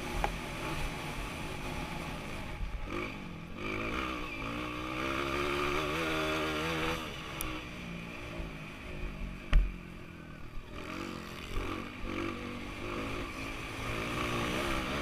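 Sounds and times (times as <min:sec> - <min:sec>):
dirt bike engine: 0:00.0 - 0:15.0.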